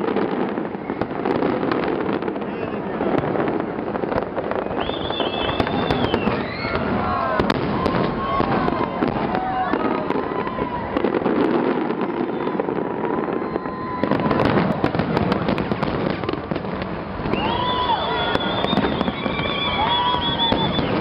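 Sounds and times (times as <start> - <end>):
fireworks booming and crackling: 0.0 - 21.0
high whistling fireworks: 0.0 - 21.0.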